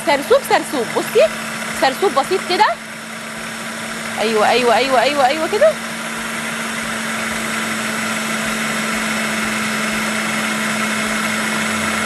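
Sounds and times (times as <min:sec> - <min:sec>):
food processor motor whirring: 0:00.0 - 0:12.0.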